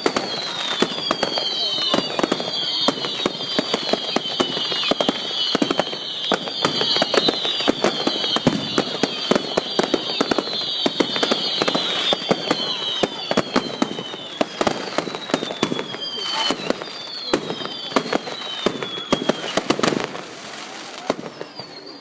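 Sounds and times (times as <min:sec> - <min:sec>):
fireworks bangs and crackles: 0:00.0 - 0:22.0
whistling fireworks: 0:00.0 - 0:22.0.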